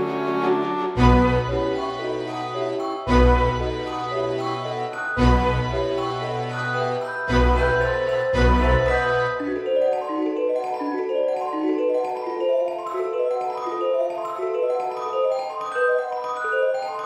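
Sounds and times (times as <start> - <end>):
mallet percussion melody: 1.0 - 17.0.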